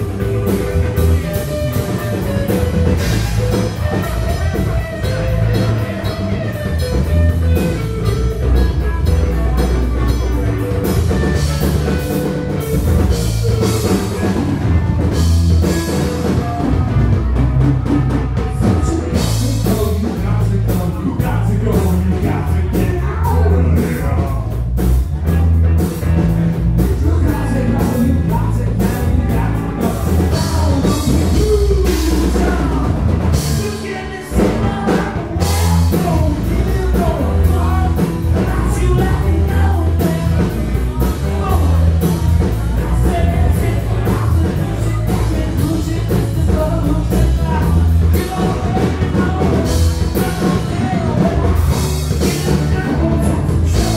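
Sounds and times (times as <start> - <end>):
bass guitar: 0.0 - 53.9
drum kit: 0.0 - 53.9
electric guitar: 0.0 - 53.9.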